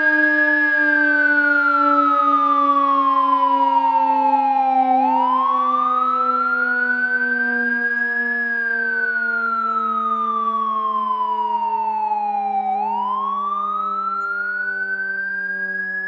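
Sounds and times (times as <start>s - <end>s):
fire truck siren wailing: 0.0s - 16.0s.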